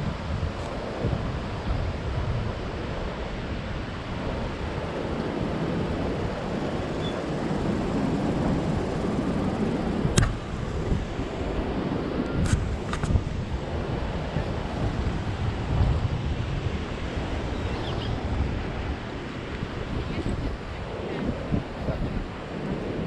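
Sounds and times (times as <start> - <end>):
beach surf: 0.0 - 23.0
wind rumbling on microphone: 0.0 - 23.0.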